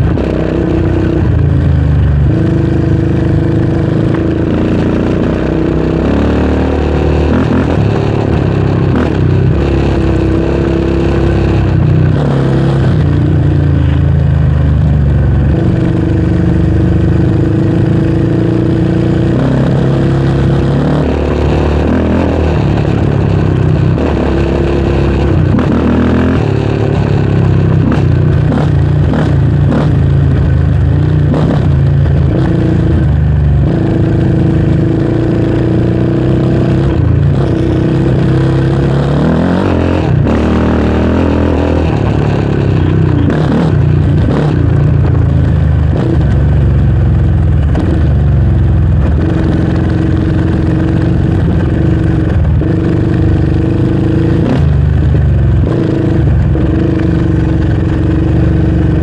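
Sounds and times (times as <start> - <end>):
quad engine running under load: 0.0 - 59.0.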